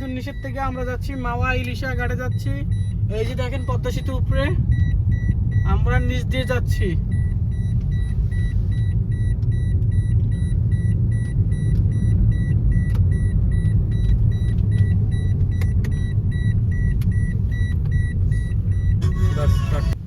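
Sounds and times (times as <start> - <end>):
vehicle rumble from inside: 0.0 - 20.0.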